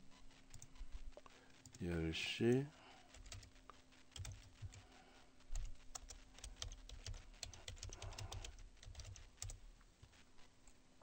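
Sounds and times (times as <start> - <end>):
faint low hum: 0.0 - 11.0
keyboard typing: 0.1 - 10.2.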